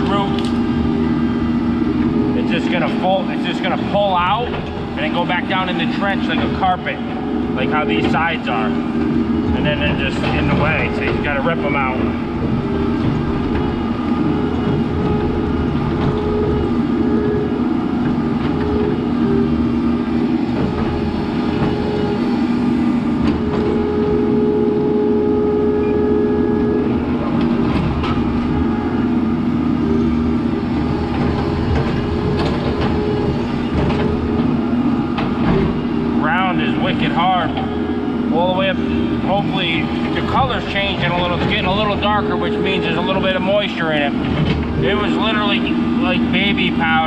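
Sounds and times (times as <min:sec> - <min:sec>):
excavator engine rumbling: 0:00.0 - 0:47.0
hydraulic whine: 0:00.0 - 0:47.0.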